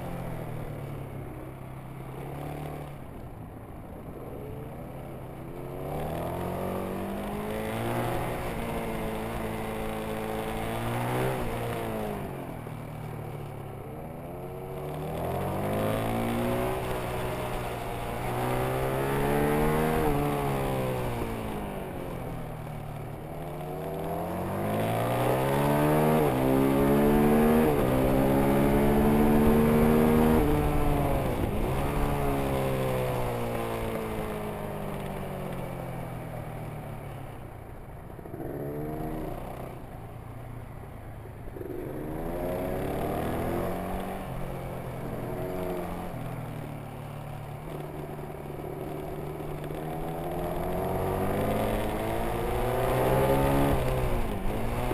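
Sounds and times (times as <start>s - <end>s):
motorcycle engine revving: 5.5s - 13.1s, 14.4s - 36.0s, 38.2s - 40.3s, 41.4s - 54.9s.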